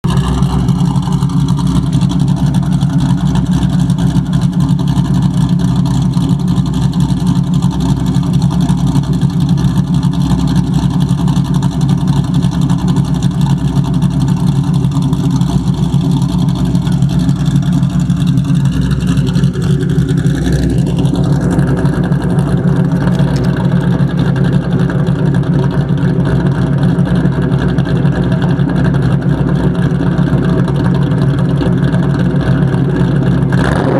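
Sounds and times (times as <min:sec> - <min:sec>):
car engine running: 0:00.0 - 0:33.9
engine tapping: 0:00.0 - 0:33.9.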